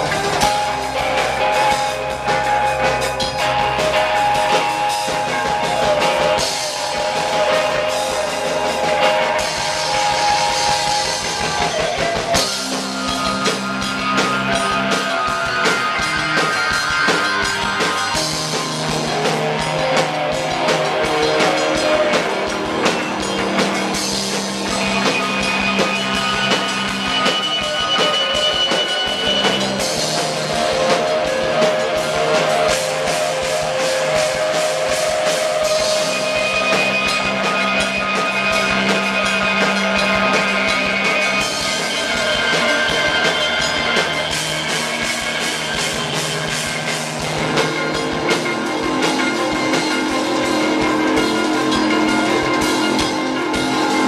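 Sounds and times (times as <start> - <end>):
drum kit with cymbal strokes: 0.0 - 54.0
electric guitars sustained notes: 0.0 - 54.0.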